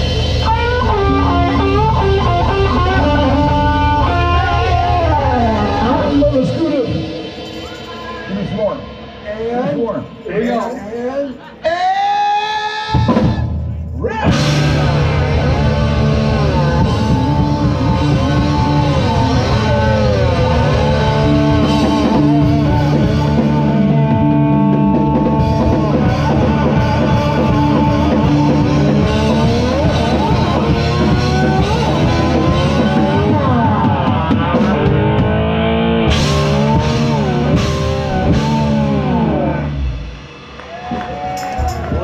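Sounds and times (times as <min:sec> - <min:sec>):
sliding lead guitar line: 0:00.0 - 0:09.0, 0:14.2 - 0:40.2
live rock band playing: 0:00.0 - 0:42.0.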